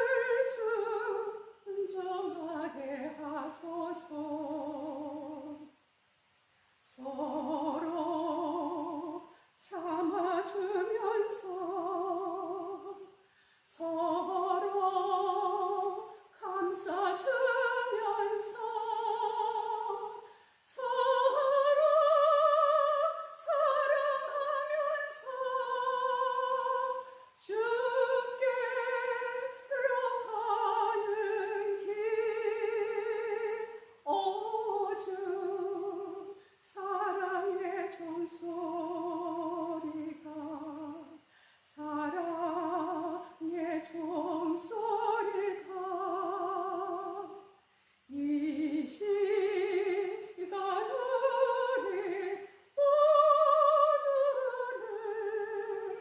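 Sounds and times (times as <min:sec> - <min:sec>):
woman singing operatic hymn: 0:00.0 - 0:05.8, 0:06.8 - 0:56.0.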